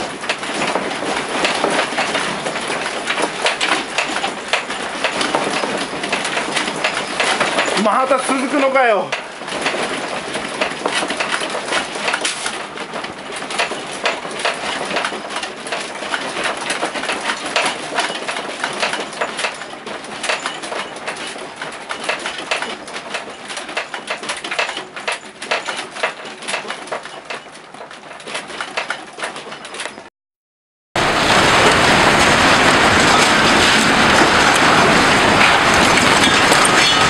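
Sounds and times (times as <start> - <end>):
house rattling and creaking: 0.0 - 30.1, 31.0 - 37.0.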